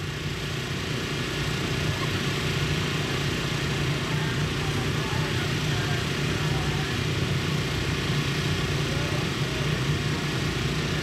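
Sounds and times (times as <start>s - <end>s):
race car engines idling: 0.0s - 11.0s.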